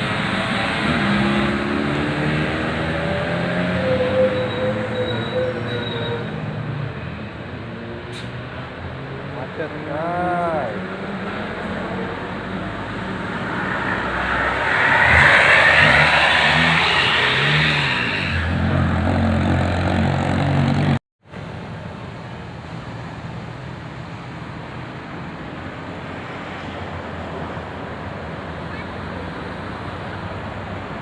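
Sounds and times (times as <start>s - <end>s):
bus passing: 0.0s - 31.0s
steady traffic noise: 0.0s - 31.0s.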